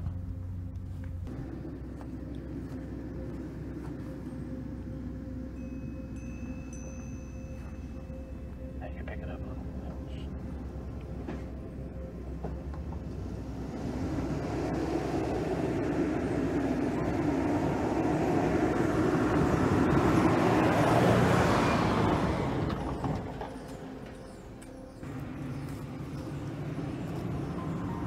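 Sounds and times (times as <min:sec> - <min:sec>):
pickup truck passing on dirt: 0:00.0 - 0:28.0.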